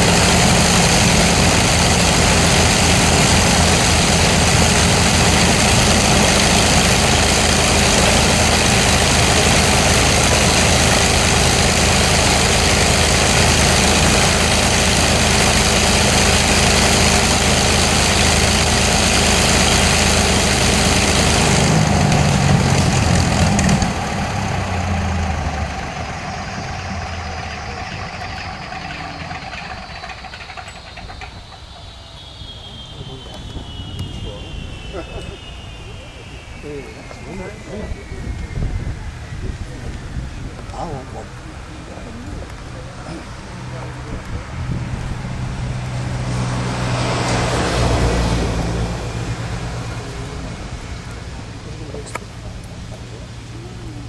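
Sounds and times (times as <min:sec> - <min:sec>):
aircraft piston engines running: 0:00.0 - 0:54.0.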